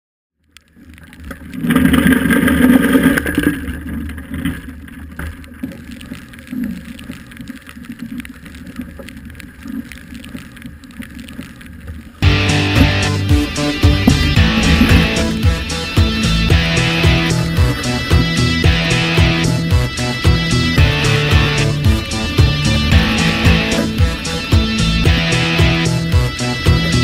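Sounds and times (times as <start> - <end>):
boat and water noise: 0.4 - 27.0.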